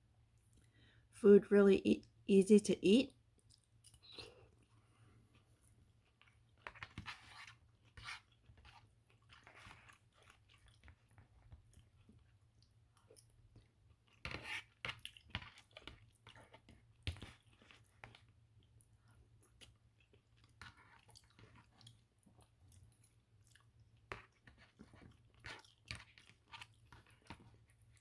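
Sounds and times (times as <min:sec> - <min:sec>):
person chewing food: 0:03.3 - 0:28.0.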